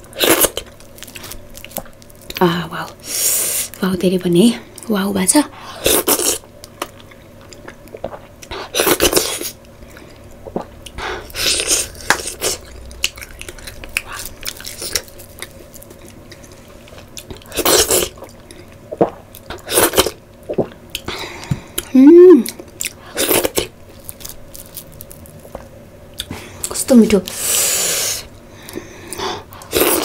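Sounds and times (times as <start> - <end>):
person chewing: 5.8 - 30.0.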